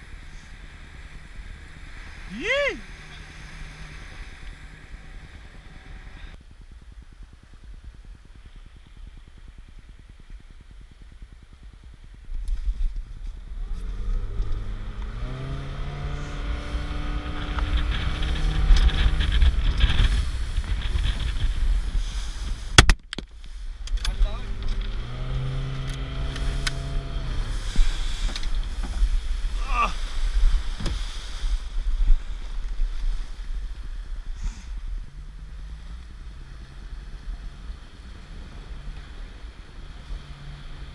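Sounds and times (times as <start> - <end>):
motorboat engine: 0.0 - 22.8, 23.5 - 40.9.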